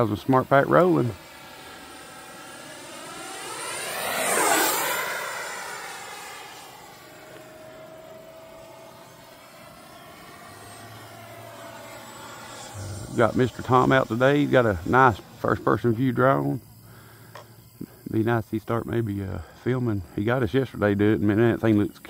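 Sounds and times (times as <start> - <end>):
model jet fan whine passing: 0.0 - 22.0.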